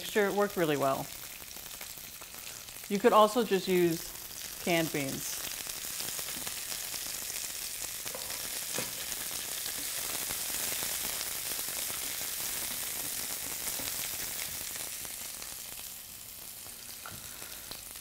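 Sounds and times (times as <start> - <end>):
vegetables sizzling in a skillet: 0.0 - 18.0.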